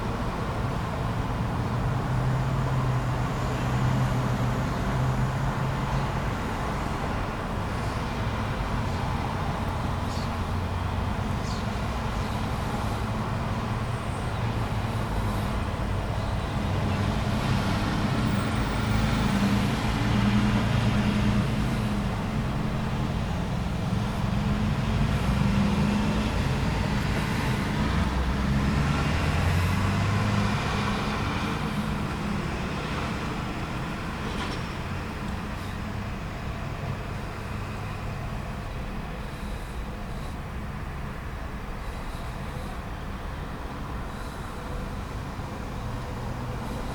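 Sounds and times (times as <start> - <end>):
heavy vehicle engines: 0.0 - 46.9
traffic rumble: 0.0 - 46.9.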